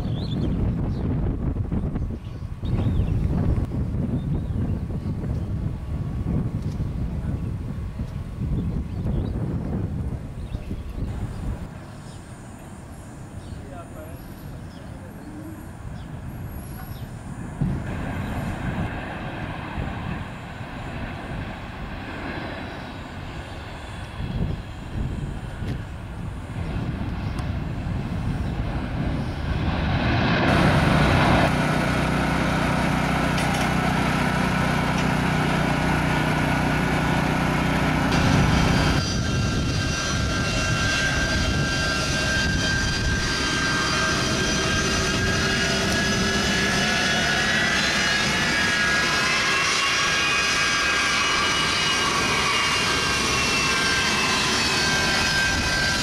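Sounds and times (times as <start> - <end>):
jet airliner landing: 0.0 - 56.0.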